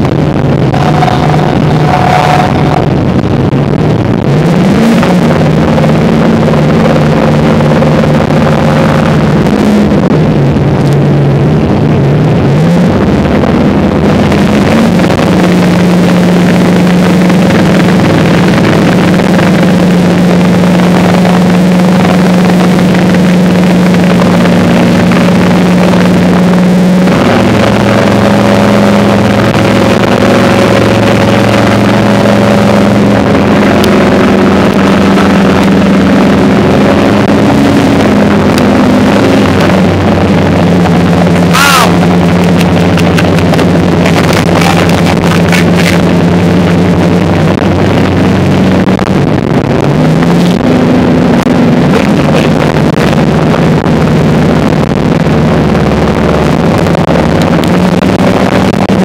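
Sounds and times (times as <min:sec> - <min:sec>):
boat engines running: 0:00.0 - 0:59.0
sea noise: 0:00.0 - 0:59.0.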